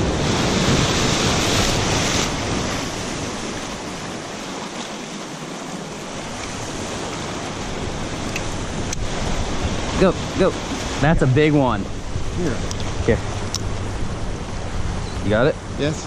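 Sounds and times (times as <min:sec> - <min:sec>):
surf breaking around pilings: 0:00.0 - 0:16.0.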